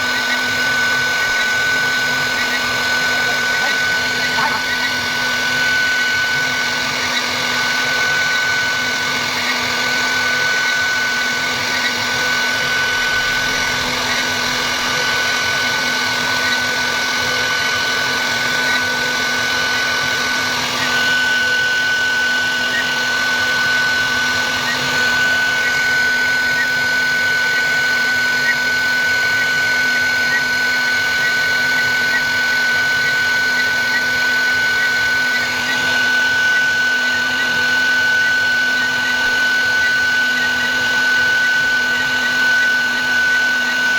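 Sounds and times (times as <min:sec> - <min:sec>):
wood router whining: 0:00.0 - 0:43.9.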